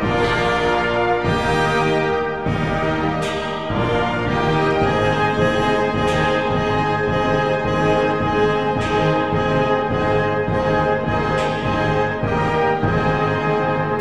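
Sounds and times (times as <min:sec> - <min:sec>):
brass and horns holding chords: 0:00.0 - 0:14.0.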